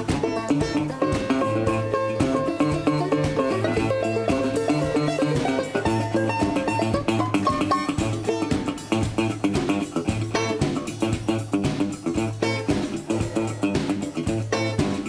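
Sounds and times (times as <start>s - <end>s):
bass line: 0.0s - 15.0s
guitar instrumental: 0.0s - 15.0s.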